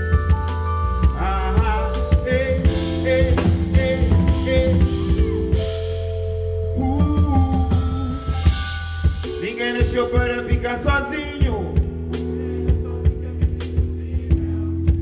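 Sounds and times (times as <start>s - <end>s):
drum kit playing: 0.0s - 15.0s
held chords: 0.0s - 15.0s
wavering melody line: 0.0s - 15.0s.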